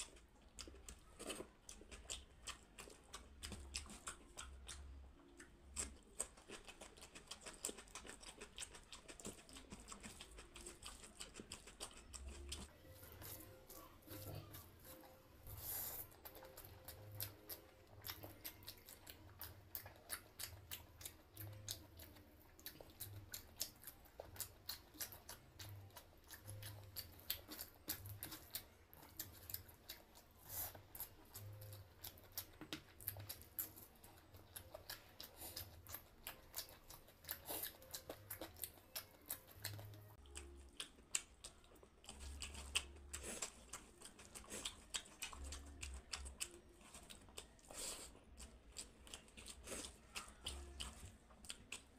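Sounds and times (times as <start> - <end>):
chewing: 0.0 - 51.9.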